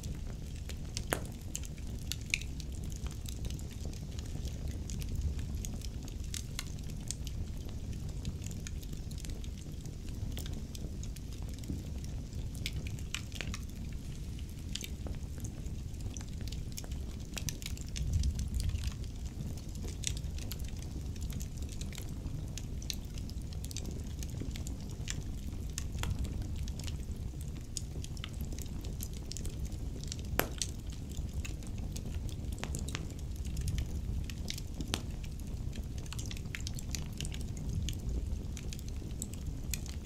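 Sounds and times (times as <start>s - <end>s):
fire crackling and popping: 0.0s - 40.0s
fire rumbling: 0.0s - 40.0s.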